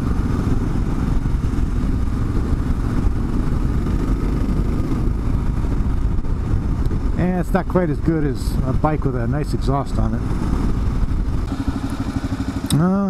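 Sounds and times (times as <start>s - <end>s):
wind rushing over microphone: 0.0s - 12.7s
motorcycle engine running: 0.0s - 13.0s.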